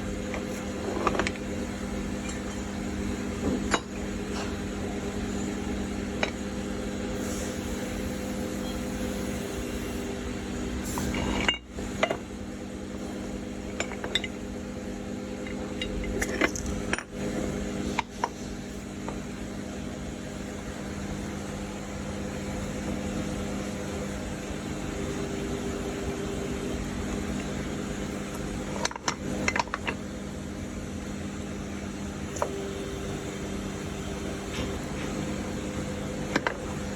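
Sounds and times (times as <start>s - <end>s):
electric machine hum: 0.0s - 36.9s.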